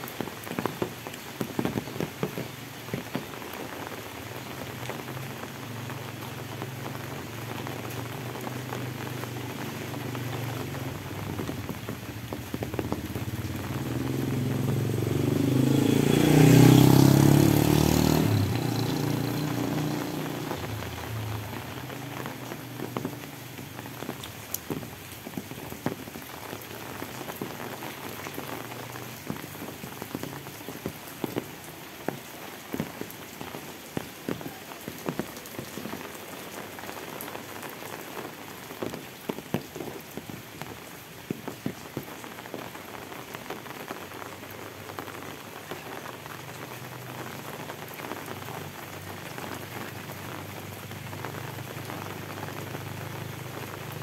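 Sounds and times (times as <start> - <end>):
rain falling on pavement: 0.0 - 54.0
vehicle passing on wet road: 0.0 - 54.0.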